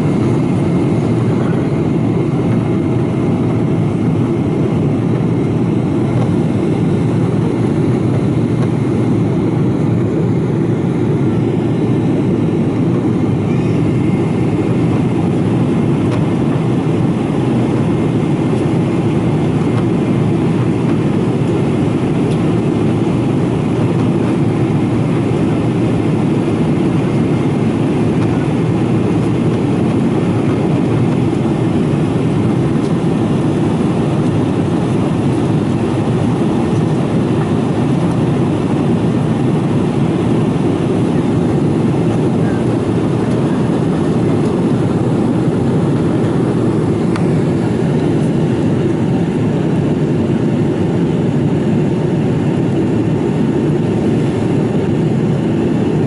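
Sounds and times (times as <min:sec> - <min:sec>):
aircraft cabin drone: 0:00.0 - 0:56.0.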